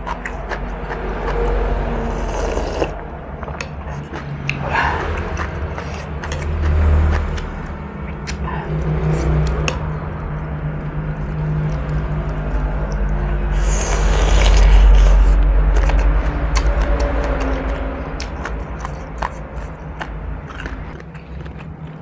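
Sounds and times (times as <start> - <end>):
chewing shrimp: 0.0 - 22.0
low rumble: 0.0 - 22.0.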